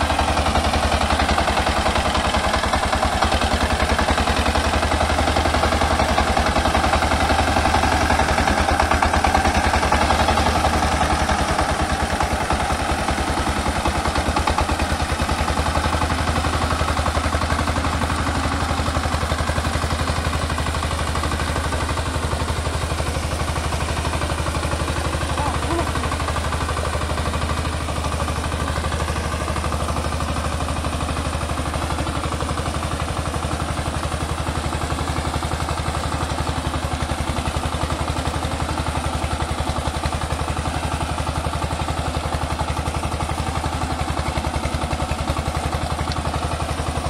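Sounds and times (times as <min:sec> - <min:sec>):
tractor engine running under load: 0:00.0 - 0:47.0.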